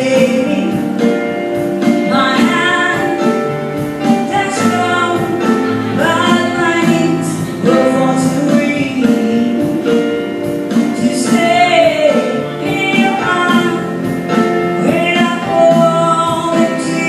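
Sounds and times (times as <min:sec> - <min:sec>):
electric keyboard chords: 0:00.0 - 0:17.0
woman singing a ballad: 0:00.0 - 0:17.0.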